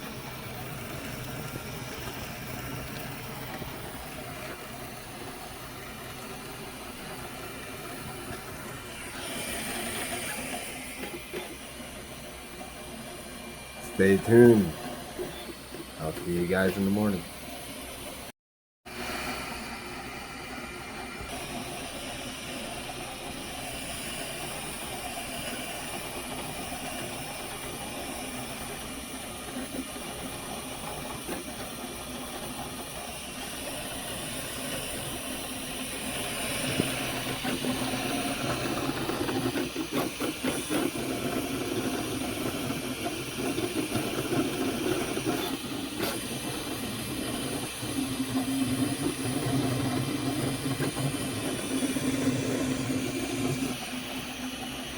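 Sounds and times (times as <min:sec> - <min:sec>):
printer motor hum shifting pitch: 0:00.0 - 0:18.2, 0:18.9 - 0:54.9
fan hiss: 0:00.0 - 0:18.3, 0:18.9 - 0:54.9.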